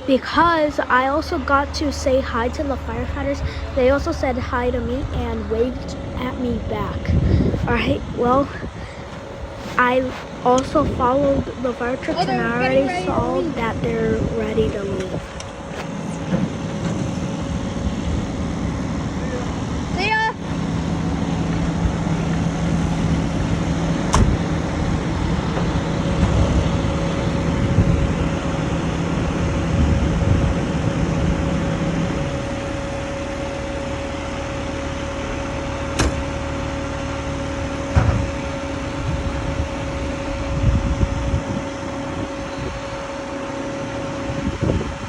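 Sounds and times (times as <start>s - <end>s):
fire engine idling: 0.0s - 45.0s.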